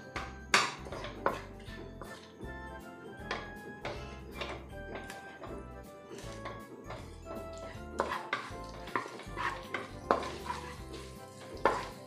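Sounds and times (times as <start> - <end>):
spatula scraping a wok: 0.0 - 2.4, 3.2 - 12.0
background music: 0.0 - 12.0.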